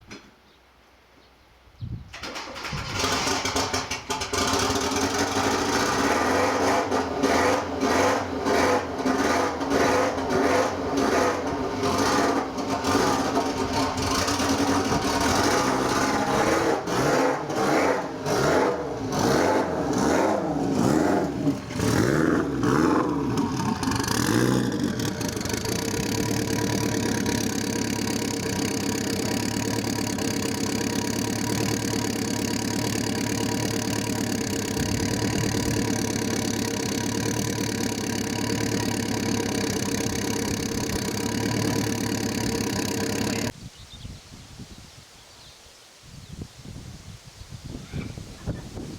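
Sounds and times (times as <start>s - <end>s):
car engine revving and idling: 3.0s - 43.6s.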